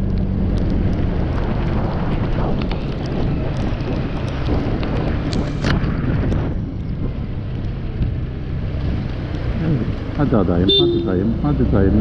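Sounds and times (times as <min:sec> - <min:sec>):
tyres on wet road: 0:00.0 - 0:12.0
wind rushing over microphone: 0:00.0 - 0:12.0.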